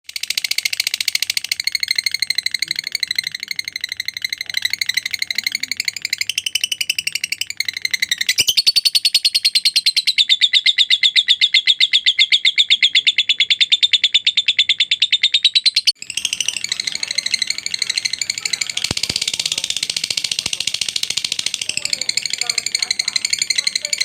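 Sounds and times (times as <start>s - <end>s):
lovebird chattering: 0.1s - 24.0s.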